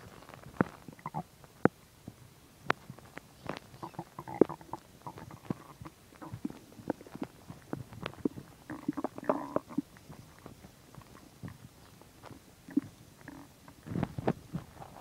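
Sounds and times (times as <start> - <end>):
stomach gurgling: 0.0 - 15.0.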